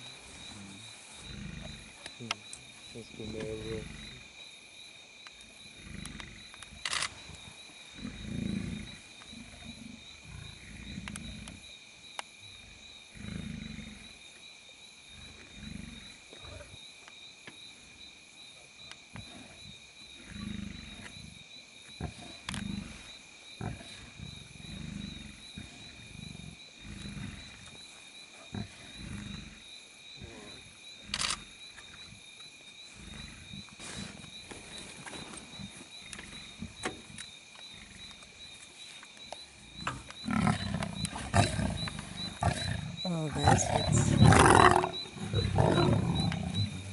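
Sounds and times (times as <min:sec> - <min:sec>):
lions growling and snarling: 0:00.0 - 0:04.5, 0:05.4 - 0:14.4, 0:15.0 - 0:16.8, 0:19.1 - 0:38.7, 0:39.4 - 0:46.9
night insects trilling: 0:00.0 - 0:46.9.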